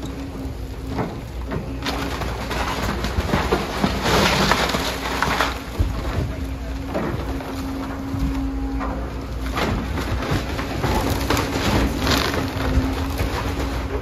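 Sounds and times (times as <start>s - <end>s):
excavator engine drone: 0.0s - 14.0s
timber crunching and splintering: 0.0s - 14.0s.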